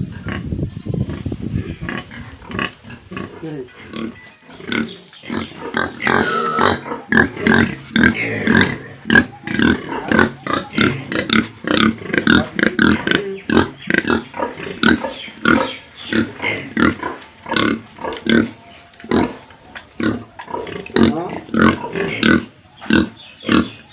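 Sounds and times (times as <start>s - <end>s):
pigs calling: 1.1s - 23.9s.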